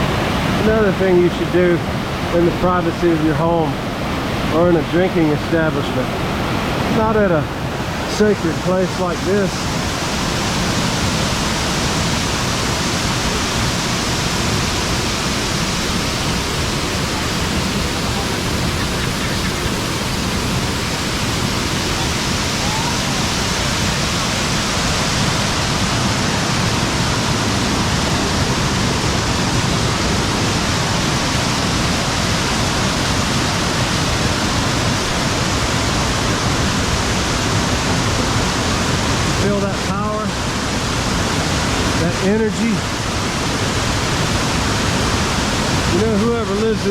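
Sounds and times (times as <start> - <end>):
waterfall rushing over rocks: 0.0 - 46.9.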